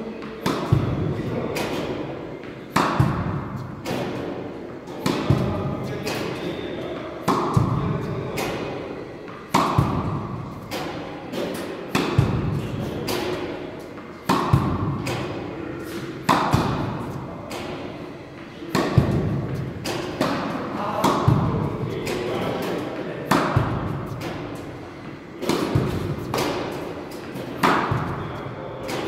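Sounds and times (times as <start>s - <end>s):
tennis racket hitting ball: 0.2s - 29.0s.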